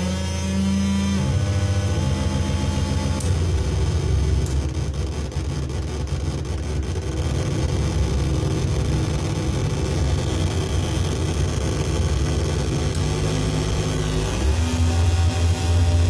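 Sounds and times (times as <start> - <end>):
low buzzing synthesizer drone: 0.0 - 16.0.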